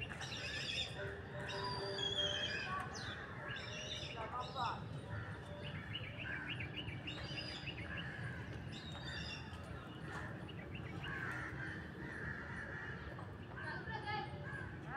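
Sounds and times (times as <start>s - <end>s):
birds chirping and calling: 0.0s - 14.9s.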